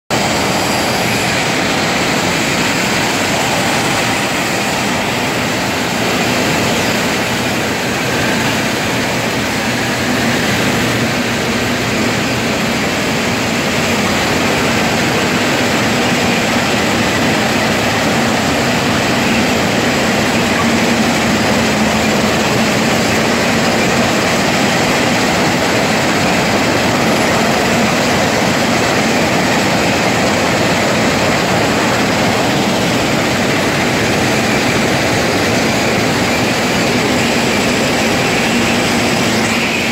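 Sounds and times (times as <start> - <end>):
track maintenance machine din: 0.1 - 39.9.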